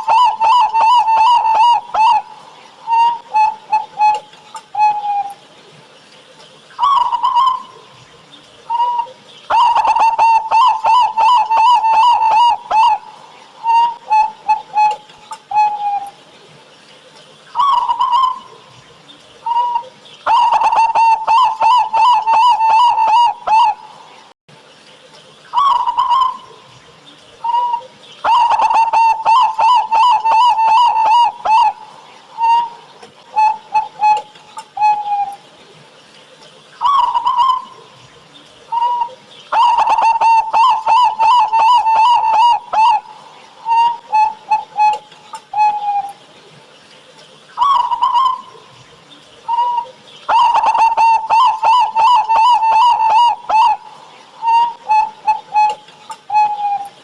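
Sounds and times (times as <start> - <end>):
dove cooing and trilling: 0.0 - 5.5, 6.8 - 16.2, 17.6 - 24.2, 25.6 - 35.5, 36.8 - 46.3, 47.6 - 57.0.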